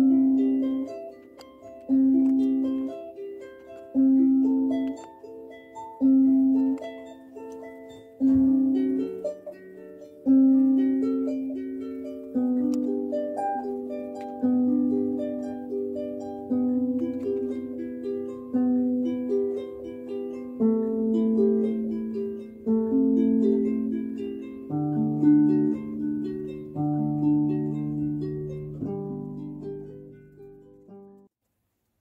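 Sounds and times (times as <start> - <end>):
gentle instrumental music: 0.0 - 31.3.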